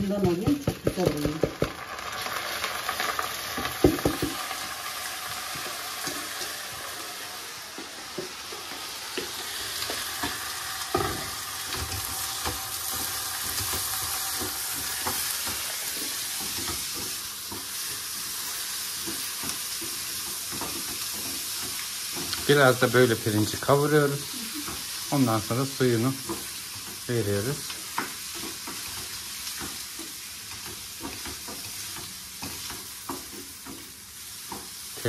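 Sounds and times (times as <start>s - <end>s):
rice sizzling in butter: 0.0s - 35.0s.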